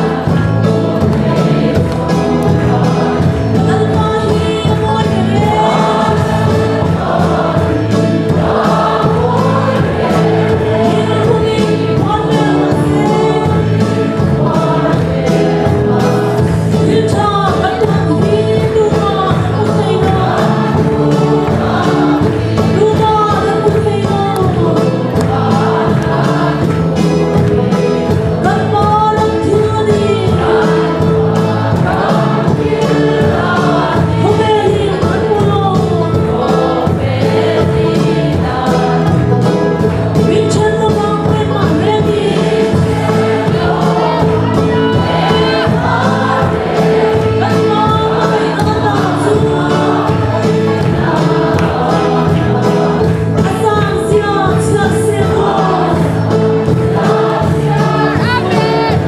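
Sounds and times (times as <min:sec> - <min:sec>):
congregation singing a hymn: 0:00.0 - 0:59.0
steady beat: 0:00.0 - 0:59.0.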